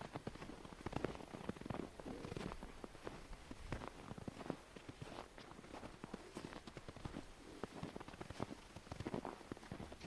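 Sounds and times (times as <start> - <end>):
footsteps crunching in snow: 0.0 - 10.0.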